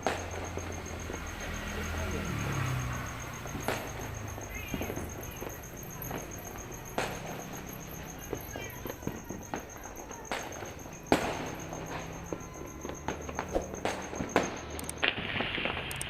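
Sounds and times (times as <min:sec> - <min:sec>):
distant fireworks banging: 0:00.0 - 0:16.0.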